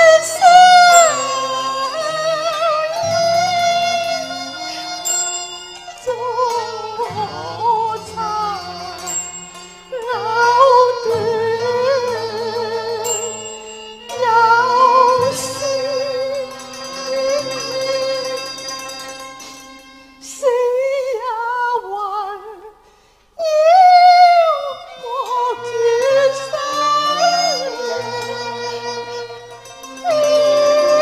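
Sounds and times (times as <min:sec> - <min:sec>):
woman singing opera: 0:00.0 - 0:05.2, 0:05.9 - 0:09.2, 0:09.9 - 0:13.5, 0:14.1 - 0:18.7, 0:20.2 - 0:22.8, 0:23.4 - 0:29.4, 0:30.0 - 0:31.0
instrumental accompaniment: 0:00.0 - 0:31.0.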